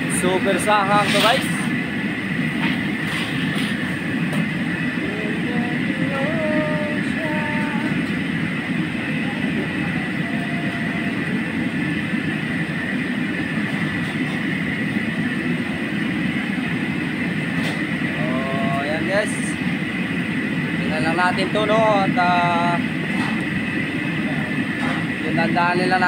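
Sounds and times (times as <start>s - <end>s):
wok burner roar: 0.0s - 26.0s.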